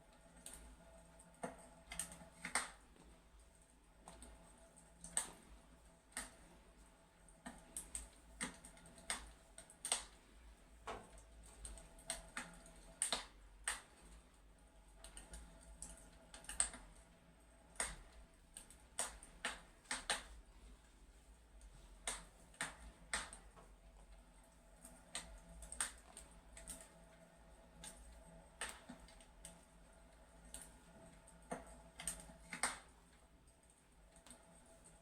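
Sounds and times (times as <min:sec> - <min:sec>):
fireplace crackling: 0:00.0 - 0:35.0.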